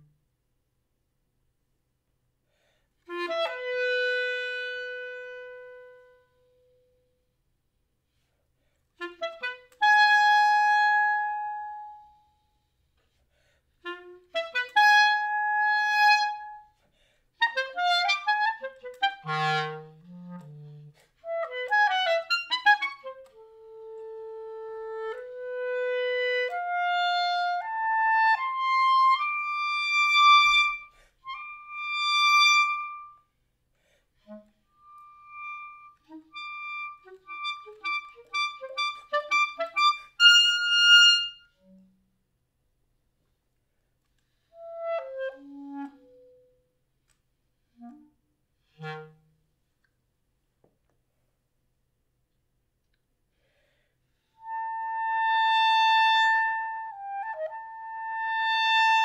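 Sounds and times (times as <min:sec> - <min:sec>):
solo clarinet: 0:02.5 - 0:07.4, 0:08.1 - 0:42.3, 0:43.7 - 0:50.0, 0:52.9 - 0:59.0.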